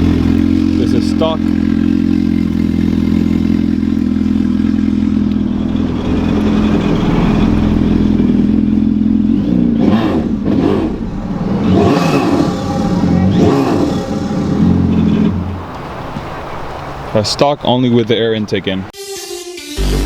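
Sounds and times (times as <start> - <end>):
jet ski engine revving: 0.0 - 17.1.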